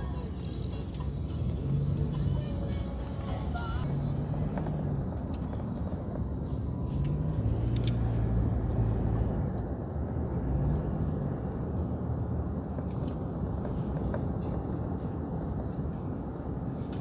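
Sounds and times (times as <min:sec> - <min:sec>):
road rumble: 0:00.0 - 0:17.0
vehicle engine humming: 0:00.0 - 0:17.0.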